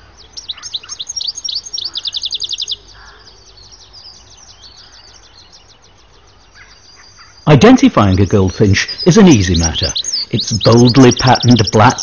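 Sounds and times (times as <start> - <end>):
finch twittering song: 0.0 - 12.0.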